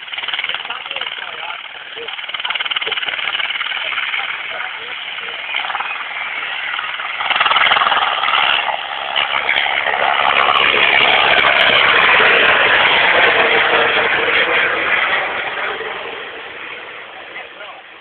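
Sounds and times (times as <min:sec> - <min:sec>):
helicopter rotor and turbine: 0:00.0 - 0:18.0.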